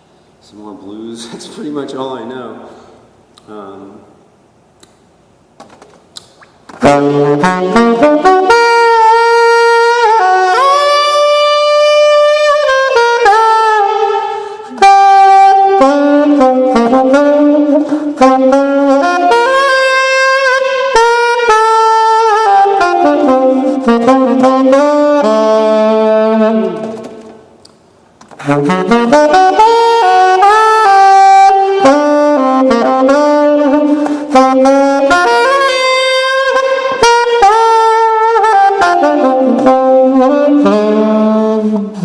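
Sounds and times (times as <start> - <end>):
saxophone slow melody: 6.7 - 42.0.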